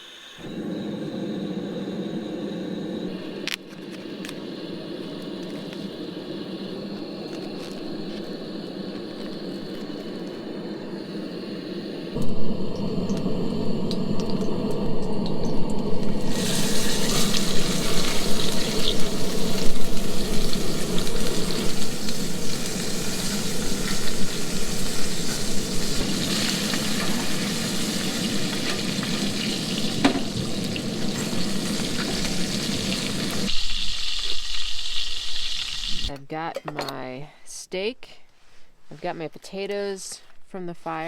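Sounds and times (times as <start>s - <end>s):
steak sizzling: 3.2s - 36.1s.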